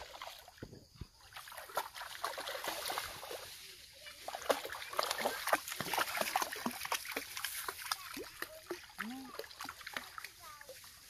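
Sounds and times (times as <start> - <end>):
dog splashing in water: 1.2 - 10.8.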